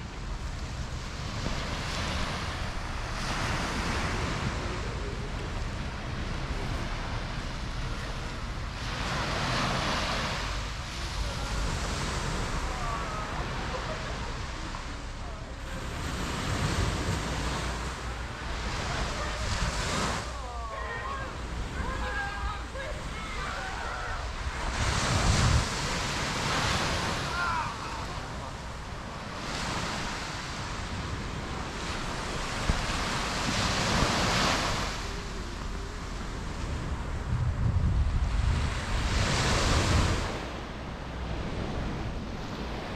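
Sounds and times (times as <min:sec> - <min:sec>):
surf washing onto beach: 0:00.0 - 0:42.9
wind rumbling on microphone: 0:00.0 - 0:42.9.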